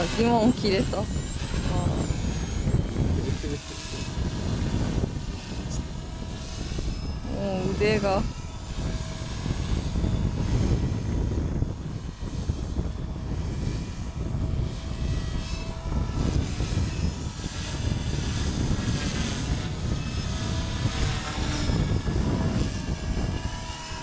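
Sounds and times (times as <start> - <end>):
rc helicopter motor whine: 0.0 - 24.0
wind buffeting microphone: 0.0 - 24.0.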